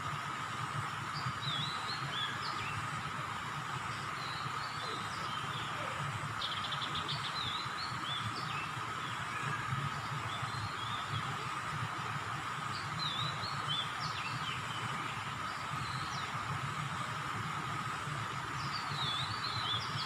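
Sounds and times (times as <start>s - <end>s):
steady mid-pitched hum: 0.0s - 20.0s
small birds chirping: 1.1s - 3.2s, 3.8s - 16.6s, 18.3s - 20.0s.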